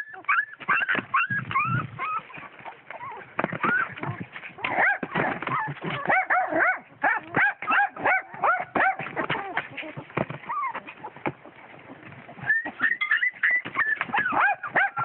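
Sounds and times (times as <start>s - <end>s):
puppies yelping and whining: 0.0s - 15.0s.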